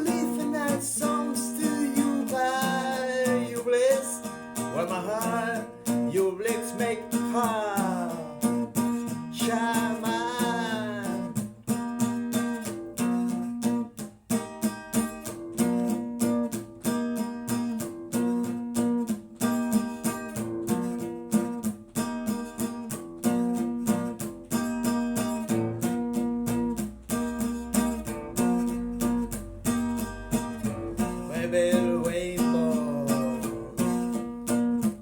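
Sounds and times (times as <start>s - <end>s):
strummed guitar: 0.0s - 35.0s.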